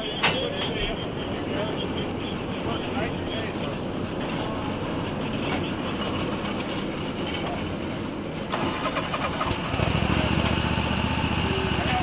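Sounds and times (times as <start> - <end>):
train rumbling on track: 0.0 - 12.0
wheels clicking over rail joints: 0.0 - 12.0.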